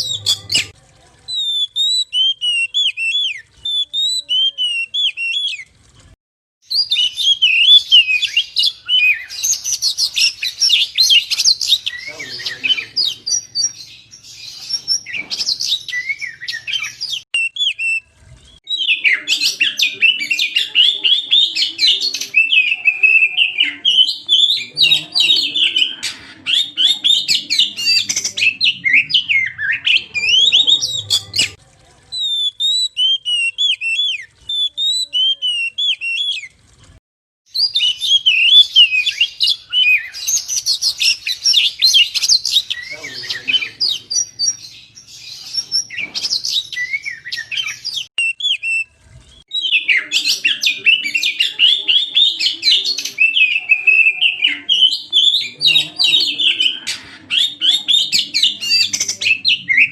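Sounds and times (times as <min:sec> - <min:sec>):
bird singing chirps and whistles: 0:00.0 - 0:00.7, 0:01.3 - 0:05.7, 0:06.7 - 0:31.6, 0:32.2 - 0:36.5, 0:37.5 - 0:59.9.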